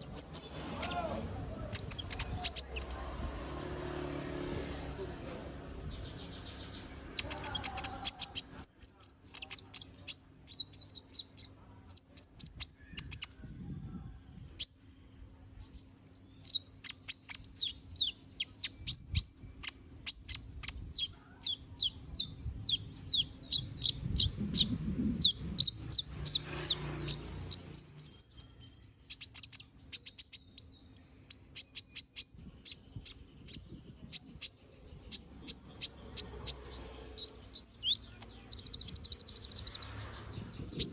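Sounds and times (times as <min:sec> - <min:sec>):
bird chirping high sharp song: 0:00.0 - 0:13.4, 0:15.6 - 0:40.9.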